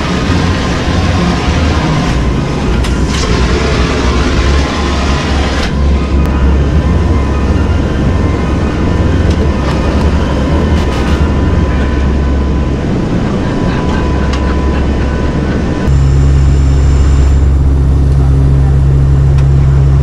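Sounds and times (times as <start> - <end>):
faint steady whine: 0.0 - 20.0
hum with steady tones: 0.0 - 20.0
turboprop engines droning: 0.0 - 20.0.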